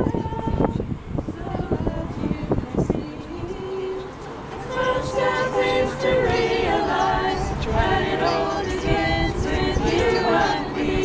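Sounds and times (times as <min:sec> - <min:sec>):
choir singing a cappella: 0:00.0 - 0:11.0.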